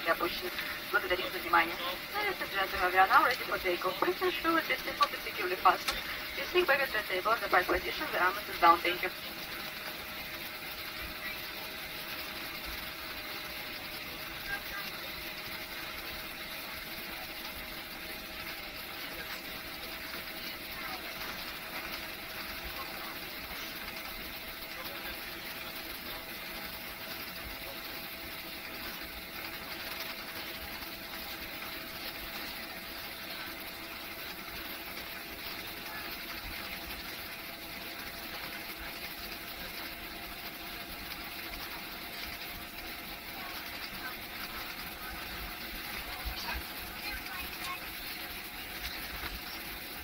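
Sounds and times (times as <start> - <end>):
jet engines idling: 0.0 - 50.0.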